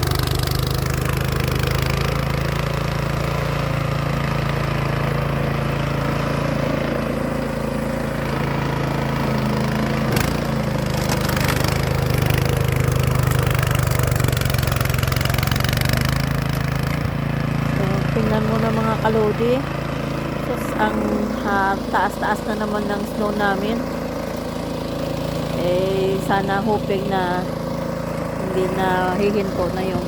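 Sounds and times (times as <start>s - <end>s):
snow blower engine running: 0.0s - 30.0s.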